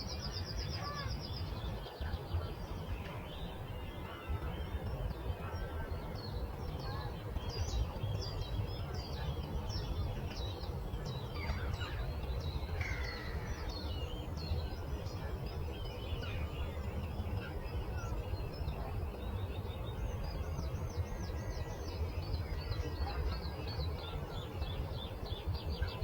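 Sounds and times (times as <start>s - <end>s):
songbirds chirping and singing: 0.1s - 26.0s.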